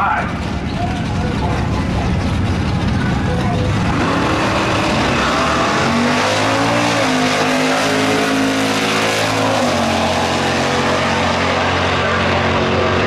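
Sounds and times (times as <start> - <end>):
cars accelerating hard: 0.0 - 13.0.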